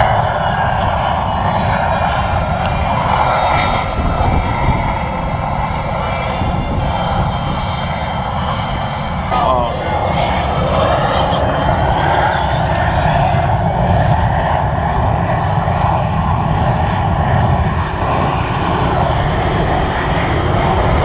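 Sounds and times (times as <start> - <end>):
aircraft engine noise: 0.0 - 21.0.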